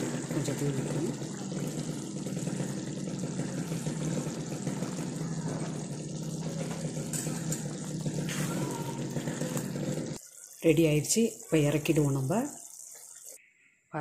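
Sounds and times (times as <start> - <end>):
gravy bubbling in a pan: 0.0 - 13.4.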